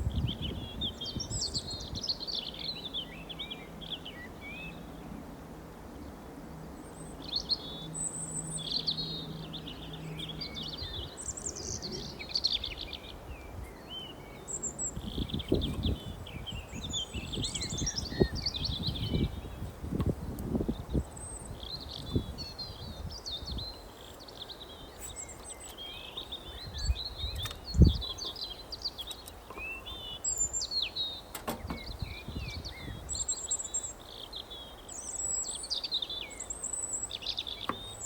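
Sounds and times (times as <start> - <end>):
songbirds singing: 0.0 - 38.0.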